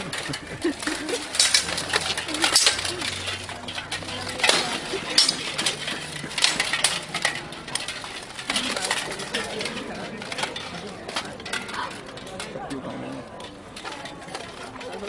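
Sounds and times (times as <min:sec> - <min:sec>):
swords clashing on metal: 0:00.0 - 0:12.6.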